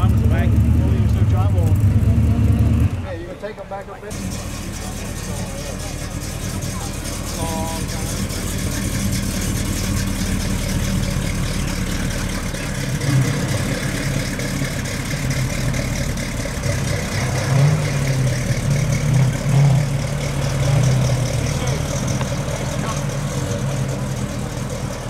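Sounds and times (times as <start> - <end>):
car engine exhaust rumble: 0.0 - 25.0
engine throttle blips: 0.0 - 25.0.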